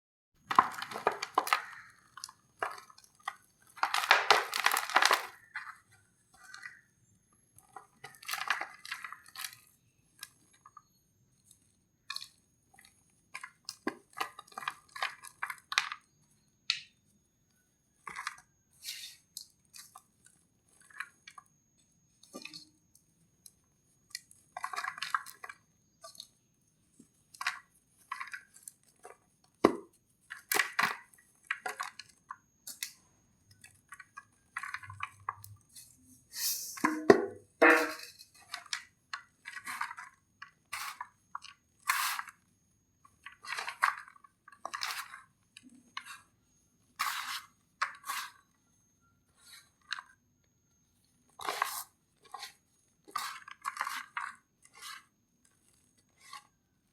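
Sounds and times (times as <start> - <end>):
dry crumble crunching and crackling: 0.4 - 36.3, 37.7 - 56.9.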